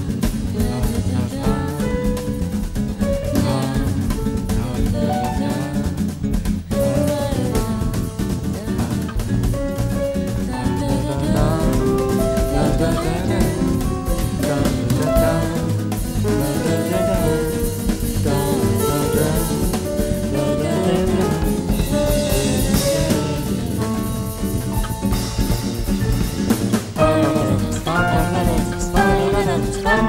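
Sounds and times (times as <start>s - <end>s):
drum kit beat: 0.0s - 30.0s
recorded pop song: 0.0s - 30.0s.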